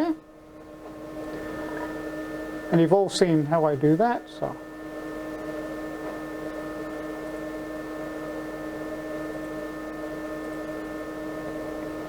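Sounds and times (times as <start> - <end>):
electrical hum of idle machine: 0.0 - 12.0.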